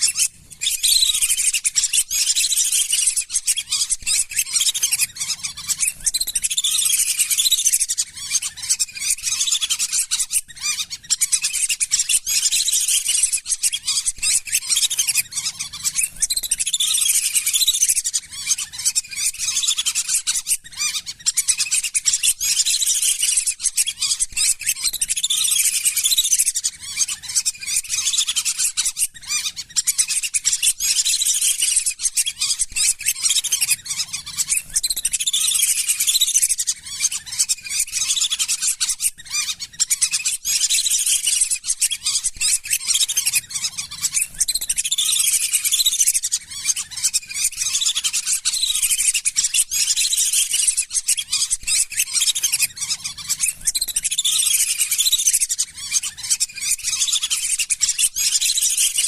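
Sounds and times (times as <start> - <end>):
ducks whistling calls: 0.0 - 59.0.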